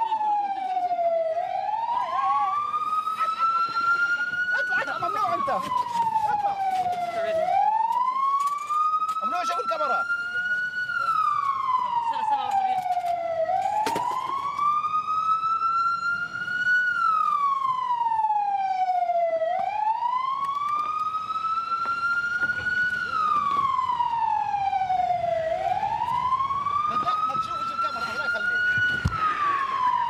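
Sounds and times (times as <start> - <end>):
ambulance siren wailing: 0.0 - 30.0.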